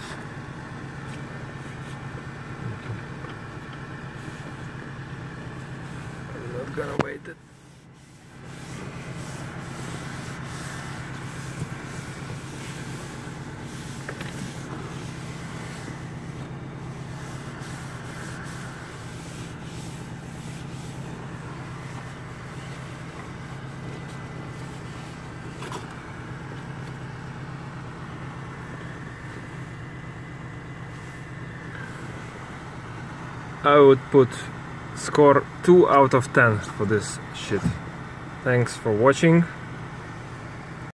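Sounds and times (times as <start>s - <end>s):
car engine idling: 0.0s - 40.9s
car heater fan blowing: 0.0s - 40.9s.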